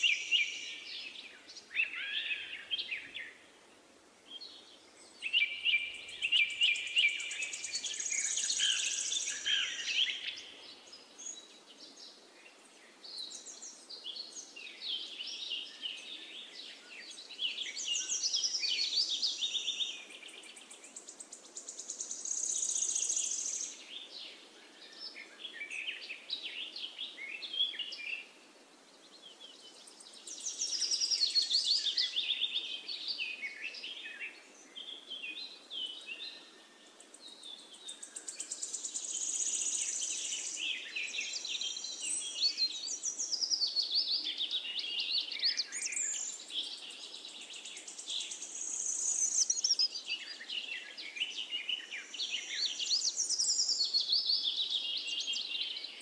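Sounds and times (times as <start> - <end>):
birds chirping and trilling: 0.0 - 3.5, 4.3 - 28.3, 29.2 - 56.0
faint steady hiss: 0.0 - 56.0.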